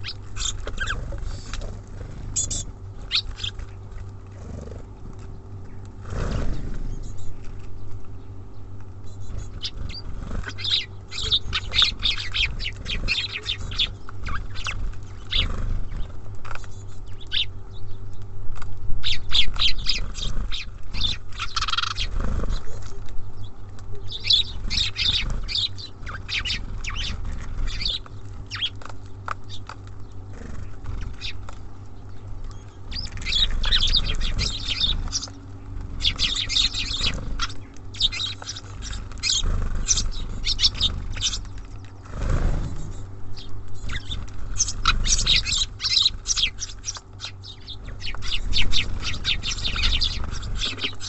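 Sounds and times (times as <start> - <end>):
low hum: 0.0 - 51.0
small birds chirping: 0.0 - 51.0.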